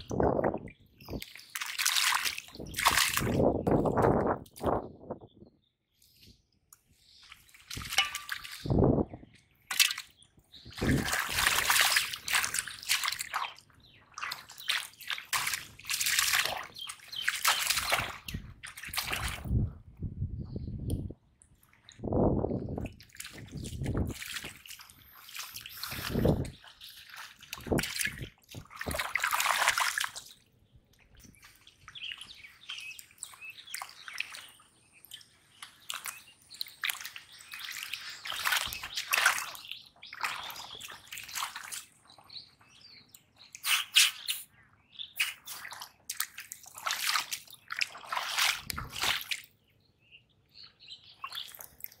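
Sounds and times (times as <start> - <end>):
muddy water splashing: 0.0 - 4.8, 7.0 - 19.7, 21.4 - 49.8, 51.0 - 52.0.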